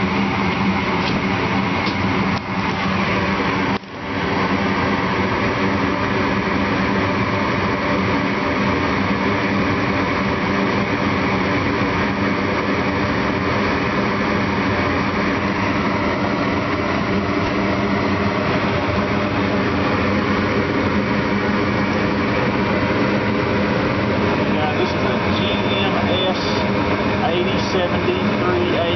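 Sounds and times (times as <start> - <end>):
gas furnace humming: 0.0 - 28.9.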